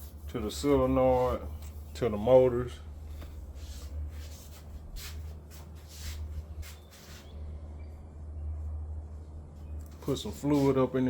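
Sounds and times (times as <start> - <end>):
rustling and scraping handling: 0.0 - 7.6, 9.4 - 11.0
steady low hum: 0.0 - 11.0.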